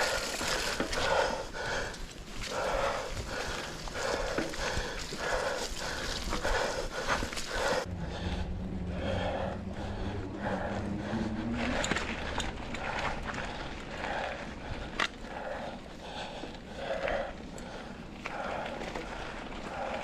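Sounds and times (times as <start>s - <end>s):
low hum: 0.0s - 20.0s
person breathing hard: 0.0s - 20.0s
tyre and trail rumble: 0.0s - 20.0s.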